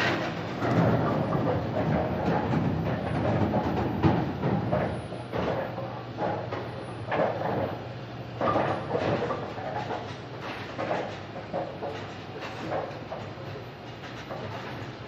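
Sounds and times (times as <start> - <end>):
objects knocking and clattering: 0.0 - 7.7, 8.4 - 15.0.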